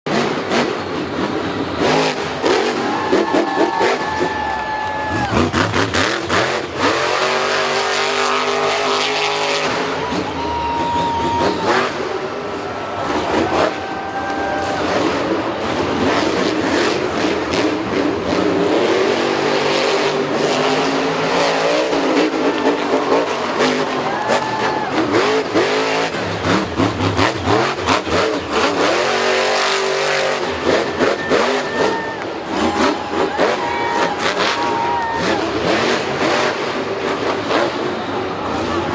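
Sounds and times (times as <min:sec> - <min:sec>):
engine revving: 0:00.0 - 0:04.3, 0:05.0 - 0:10.4, 0:14.7 - 0:38.9.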